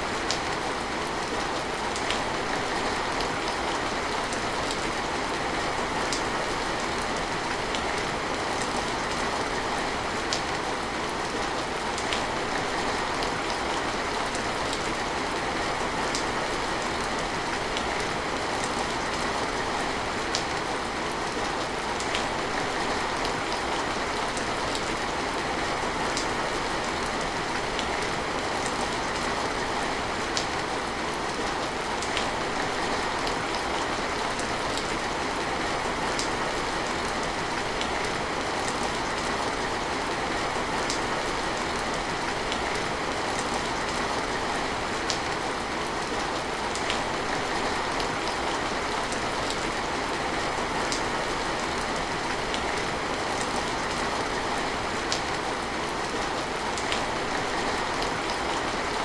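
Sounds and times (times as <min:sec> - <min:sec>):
rain hissing on surfaces: 0:00.0 - 0:59.0.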